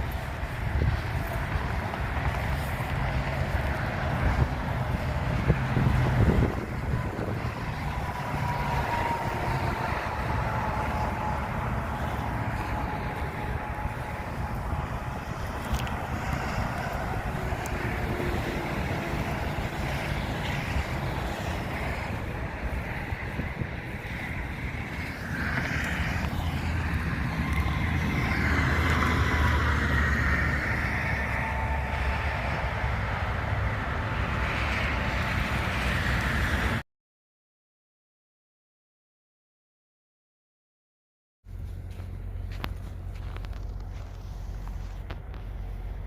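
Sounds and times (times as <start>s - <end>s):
diesel truck engine running: 0.0s - 36.8s, 41.5s - 46.0s
road noise: 0.0s - 36.8s, 41.4s - 46.0s.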